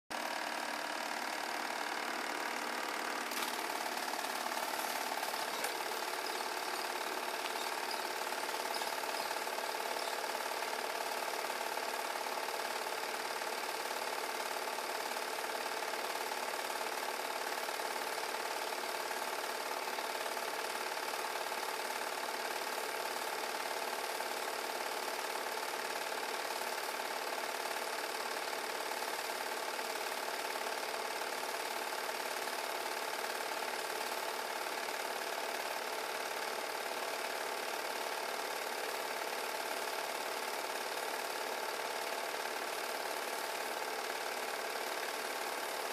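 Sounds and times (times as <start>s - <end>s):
film projector whirring: 0.1s - 45.9s.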